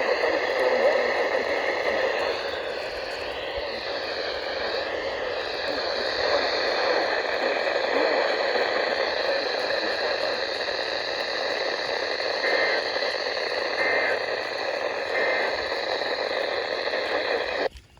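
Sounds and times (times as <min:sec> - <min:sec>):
short radio tones: 0:00.0 - 0:17.7
radio static hiss: 0:00.0 - 0:17.9.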